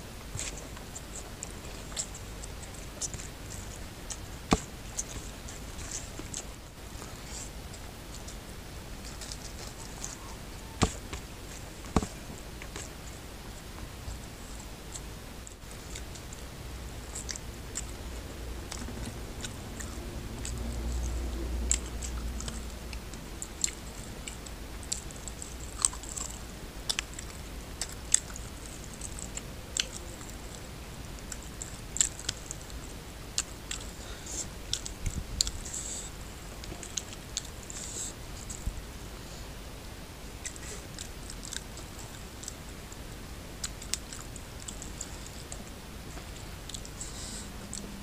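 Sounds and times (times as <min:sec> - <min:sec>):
wet chewing with smacks: 0:00.3 - 0:38.6, 0:40.4 - 0:48.0.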